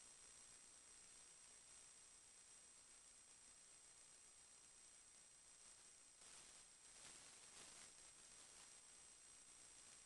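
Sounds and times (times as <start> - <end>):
faint hiss: 0.0 - 10.0
thin high-pitched whine: 0.0 - 10.0.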